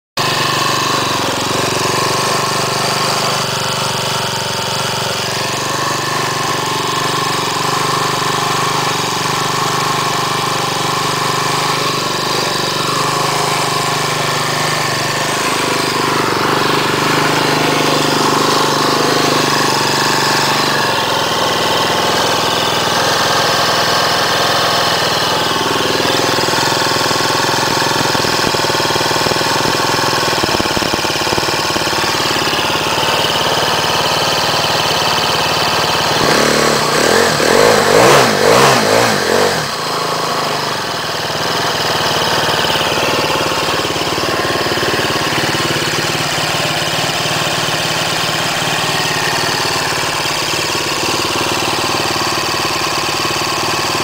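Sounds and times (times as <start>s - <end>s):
small motorbike engine running: 0.2s - 54.0s.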